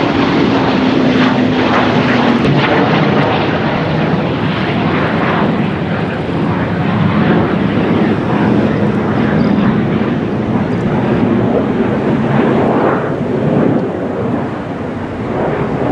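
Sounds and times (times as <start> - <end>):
jet engine roar: 0.0 - 15.9.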